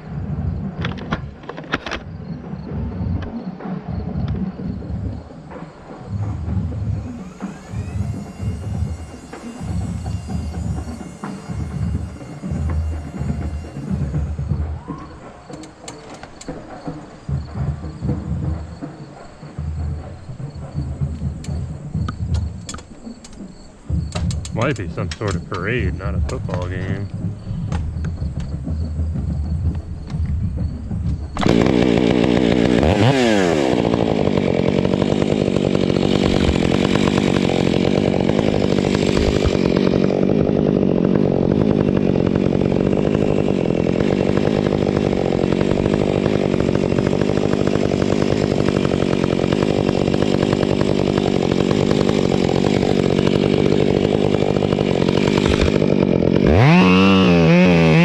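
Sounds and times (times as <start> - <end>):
chainsaw cutting wood: 4.3 - 58.0.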